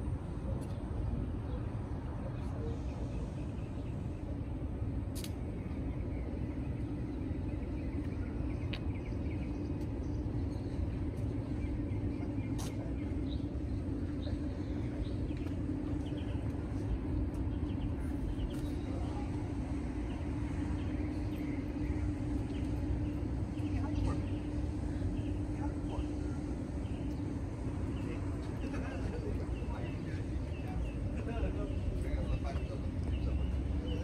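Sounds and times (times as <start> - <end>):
low hum: 0.0 - 34.0
street traffic rumble: 0.0 - 34.0.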